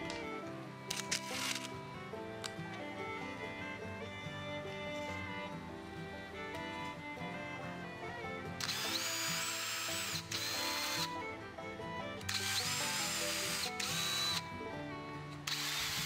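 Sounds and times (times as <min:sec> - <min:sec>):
electric drill whining: 0:00.0 - 0:03.3, 0:06.0 - 0:16.0.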